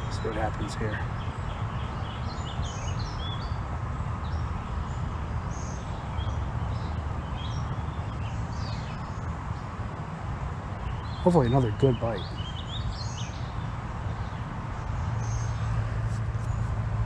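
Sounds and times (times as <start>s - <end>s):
small birds chirping: 0.0s - 9.8s, 10.7s - 16.7s
low rushing background noise: 0.0s - 17.0s.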